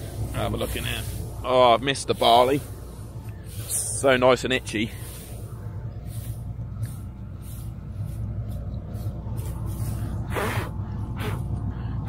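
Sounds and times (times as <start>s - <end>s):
harvester engine humming: 0.0s - 12.0s.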